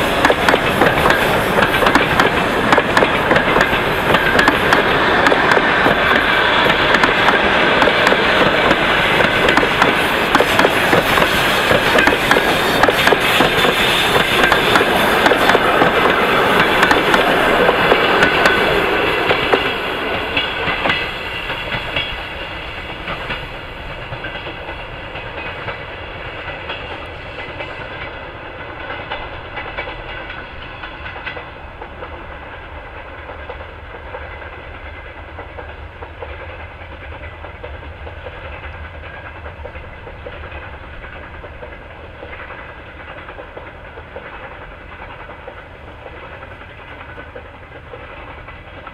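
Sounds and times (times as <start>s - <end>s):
train wheels clattering over rail joints: 0.0s - 48.9s.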